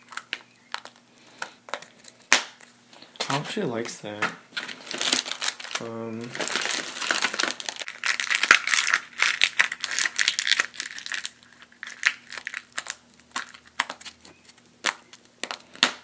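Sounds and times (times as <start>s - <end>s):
plastic packaging crinkling: 0.0s - 3.4s, 4.5s - 16.0s.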